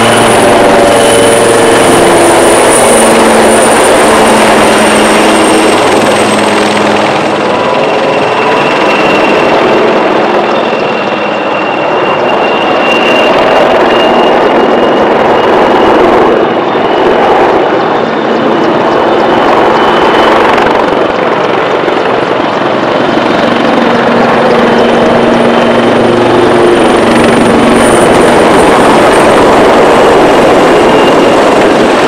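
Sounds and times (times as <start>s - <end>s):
helicopter rotor noise: 0.0s - 32.0s
high engine whine: 0.0s - 32.0s.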